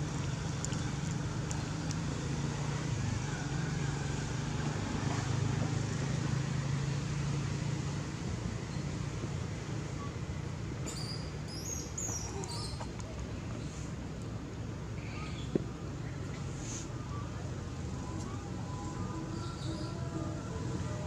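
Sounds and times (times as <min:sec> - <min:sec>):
faint road noise: 0:00.0 - 0:21.0
vehicle engine drone: 0:00.0 - 0:21.0.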